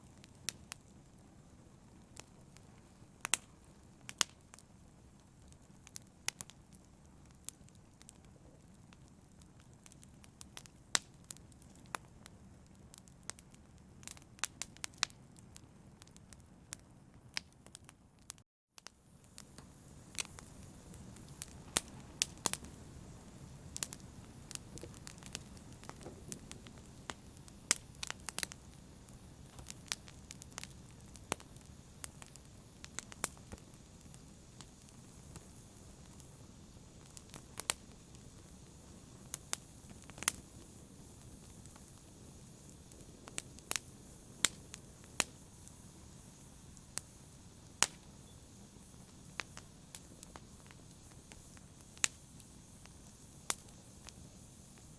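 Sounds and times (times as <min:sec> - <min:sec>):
campfire burning: 0:00.0 - 0:54.9
wood crackling and popping: 0:02.0 - 0:54.9.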